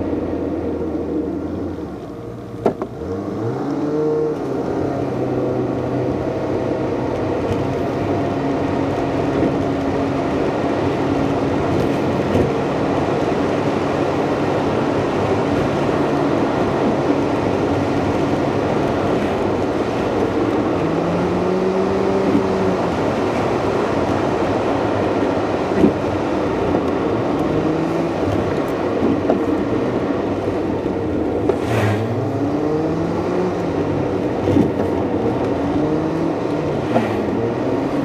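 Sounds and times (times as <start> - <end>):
car engine and tyre noise: 0.0 - 38.0.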